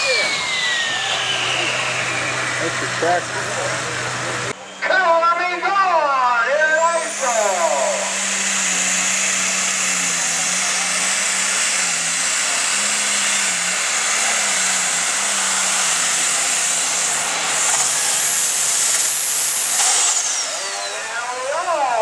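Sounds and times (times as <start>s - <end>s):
diesel engine running flat out: 0.0s - 4.8s, 6.0s - 22.0s
turbo whine: 0.0s - 22.0s.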